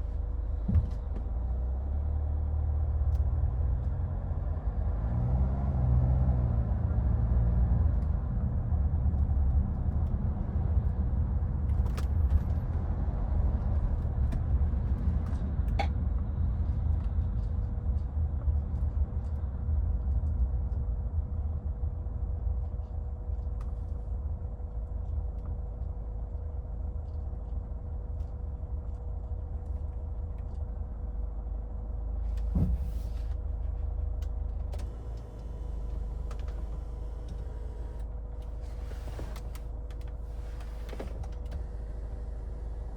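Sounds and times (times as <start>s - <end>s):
car engine and road noise rumble: 0.0s - 42.9s.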